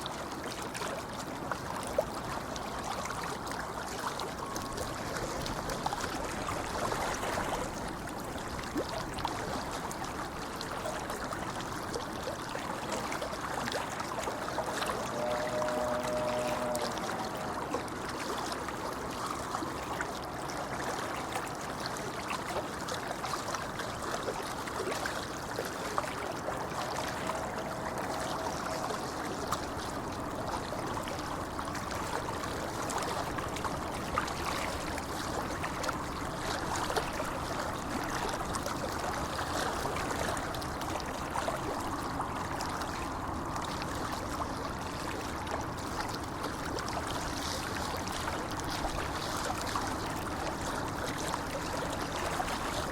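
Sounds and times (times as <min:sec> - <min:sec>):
river babbling over stones: 0:00.0 - 0:52.9.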